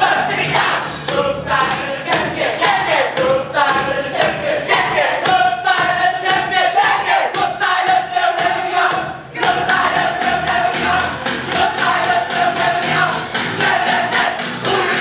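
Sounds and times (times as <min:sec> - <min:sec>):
music: 0:00.0 - 0:15.0
young voices singing and chanting: 0:00.0 - 0:15.0.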